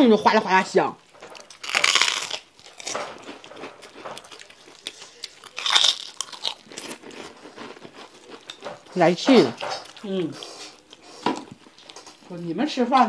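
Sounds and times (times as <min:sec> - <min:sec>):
shrimp cracker crunching: 0:01.3 - 0:12.4.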